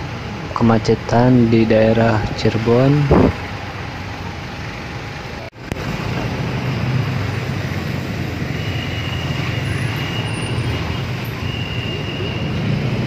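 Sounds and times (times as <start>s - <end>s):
motorcycle engines idling: 0.0s - 13.0s
road noise: 0.0s - 13.0s.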